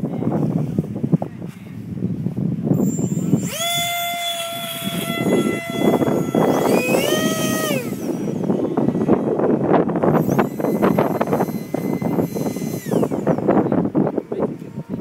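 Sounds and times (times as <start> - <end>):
wind on microphone: 0.0 - 15.0
electric motor and propeller whine: 0.3 - 15.0.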